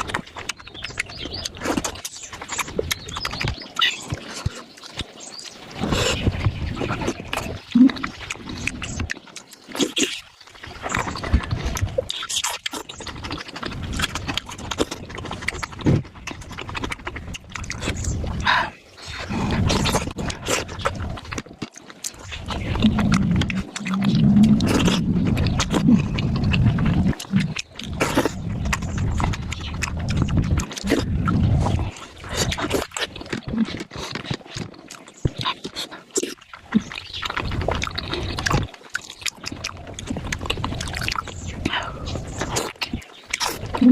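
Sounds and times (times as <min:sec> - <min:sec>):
wet chewing: 0:00.0 - 0:43.9.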